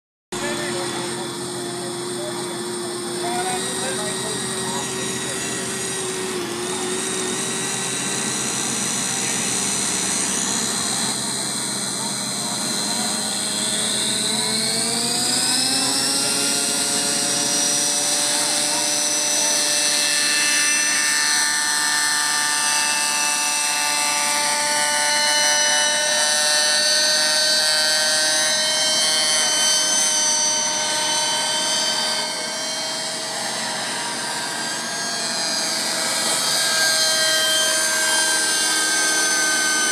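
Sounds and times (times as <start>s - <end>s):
model helicopter whine: 0.3s - 39.9s.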